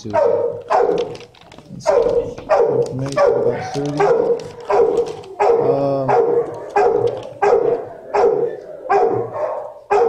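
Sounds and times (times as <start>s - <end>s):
dogs barking with echo: 0.0s - 10.0s.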